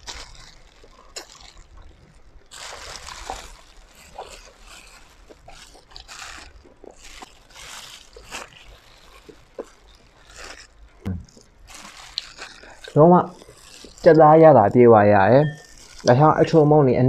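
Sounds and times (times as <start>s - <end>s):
wet chewing and mouth smacks: 0.0s - 14.2s.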